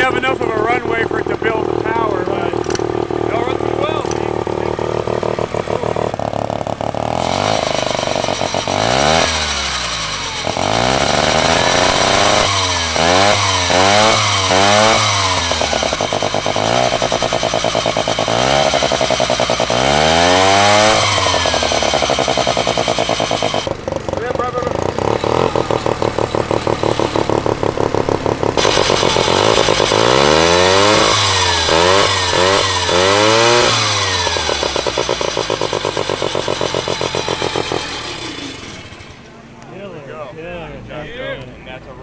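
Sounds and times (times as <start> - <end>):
small engine revving: 0.0 - 39.6.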